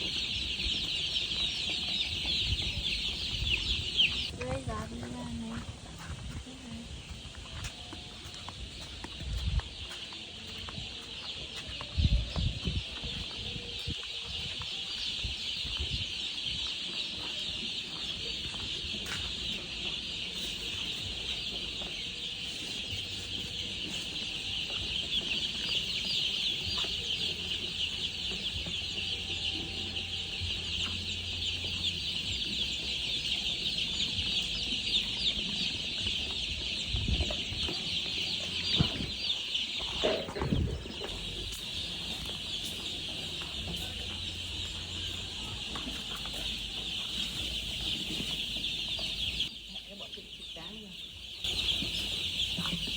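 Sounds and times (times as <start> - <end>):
baby chicks peeping: 0.0 - 52.9.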